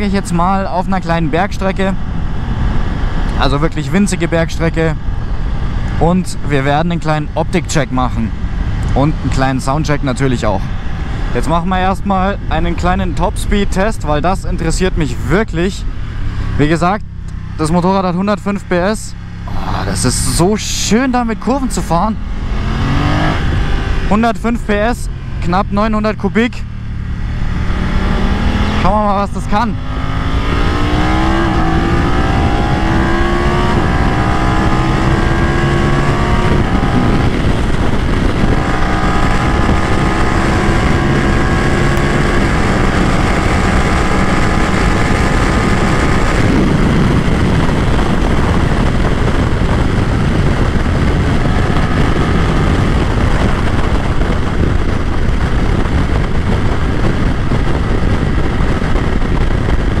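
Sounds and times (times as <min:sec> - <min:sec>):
motorcycle engine accelerating: 0:00.0 - 1:00.0
wind noise rushing: 0:00.0 - 1:00.0.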